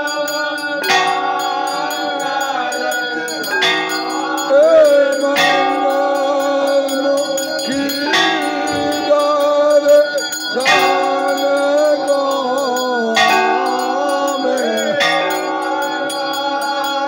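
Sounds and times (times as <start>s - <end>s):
bells ringing: 0.0s - 17.0s
devotional singing: 0.0s - 17.0s.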